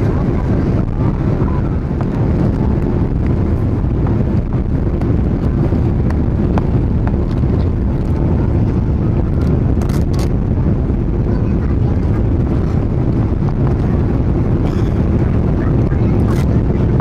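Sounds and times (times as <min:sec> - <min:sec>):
aircraft cabin engine rumble: 0:00.0 - 0:17.0
airflow noise: 0:00.0 - 0:17.0.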